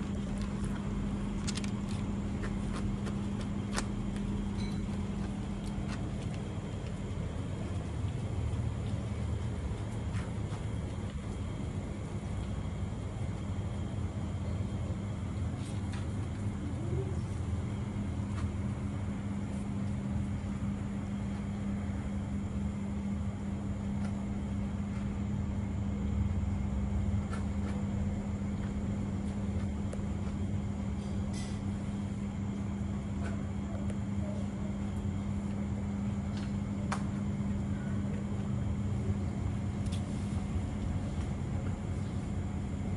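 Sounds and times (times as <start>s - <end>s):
low machine hum: 0.0s - 42.9s.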